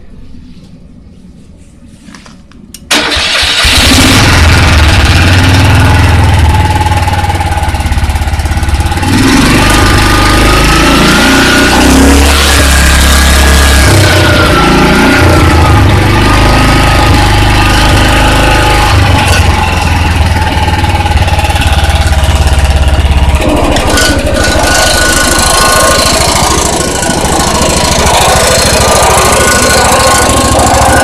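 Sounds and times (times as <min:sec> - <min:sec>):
snowblower engine running: 0:02.9 - 0:31.0.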